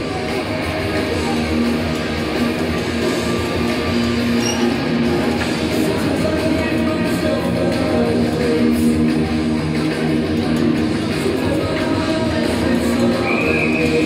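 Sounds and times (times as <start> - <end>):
rock music over loudspeakers: 0.0 - 14.0.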